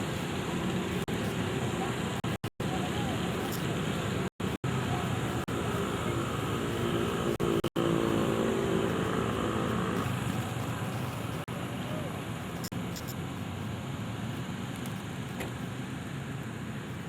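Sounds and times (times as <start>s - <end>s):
road traffic noise: 0.0s - 17.0s
vehicle engine: 0.0s - 17.0s.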